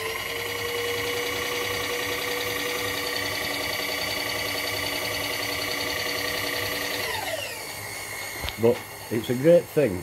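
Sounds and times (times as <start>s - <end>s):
power feed motor whine: 0.0s - 10.0s.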